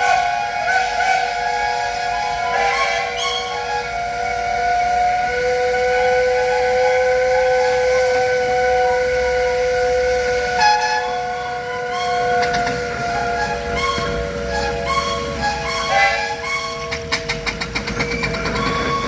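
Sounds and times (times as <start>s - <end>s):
steam whistles blowing: 0.0s - 19.0s.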